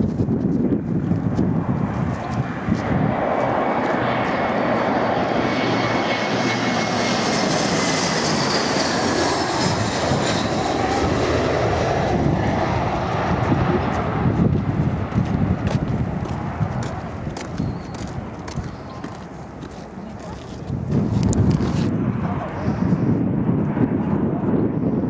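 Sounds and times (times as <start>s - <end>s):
airliner engines passing overhead: 0.0s - 25.0s.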